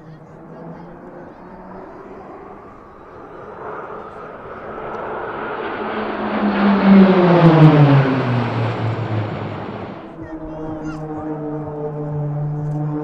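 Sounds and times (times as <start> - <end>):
aircraft passing: 0.0 - 13.0.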